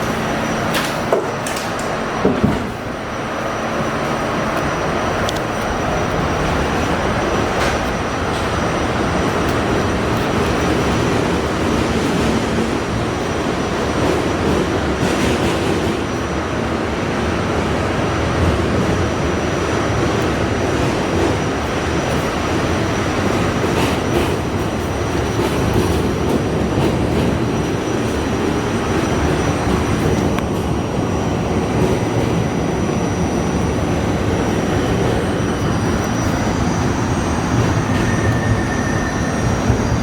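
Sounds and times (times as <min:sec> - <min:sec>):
subway car wheels rumbling: 0:00.0 - 0:40.0.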